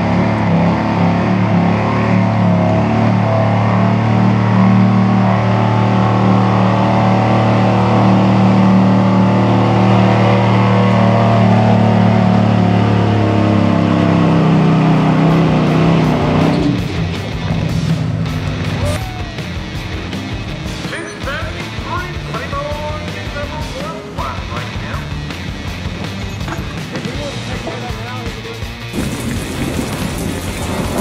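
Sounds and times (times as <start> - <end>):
truck engine under heavy load: 0.0 - 31.0.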